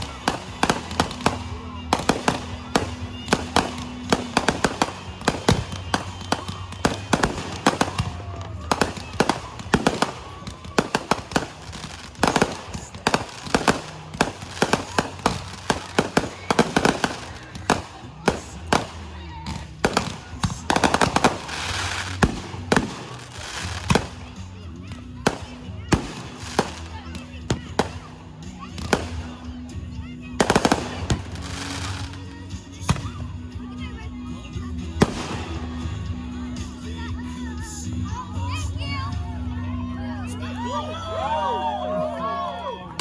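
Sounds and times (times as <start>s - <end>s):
fireworks popping and banging: 0.0s - 34.1s, 34.8s - 36.8s
fireworks crackling: 0.0s - 39.1s.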